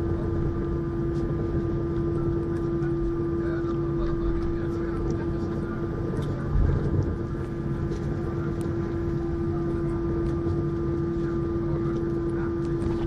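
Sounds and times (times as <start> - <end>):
aircraft cabin engine hum: 0.0 - 13.0.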